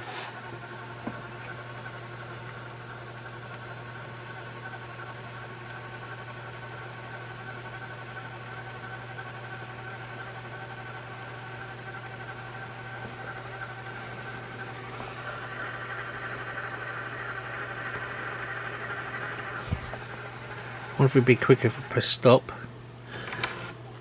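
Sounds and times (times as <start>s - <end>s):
camcorder tape rewinding whir: 0.0s - 24.0s
low hum: 0.0s - 24.0s.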